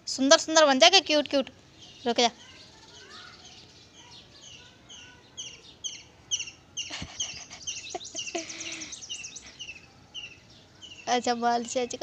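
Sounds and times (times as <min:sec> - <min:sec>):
bird chirping: 0:01.5 - 0:12.0.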